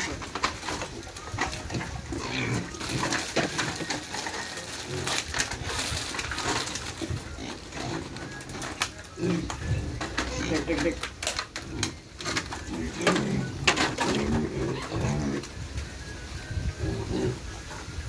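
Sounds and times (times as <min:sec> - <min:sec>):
pigs grunting: 0:00.0 - 0:15.6, 0:16.8 - 0:17.8.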